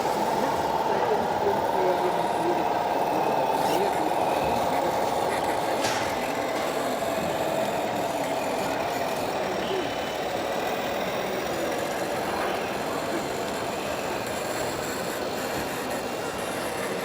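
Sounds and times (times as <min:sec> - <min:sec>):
model trucks engine drone: 0:00.0 - 0:17.0.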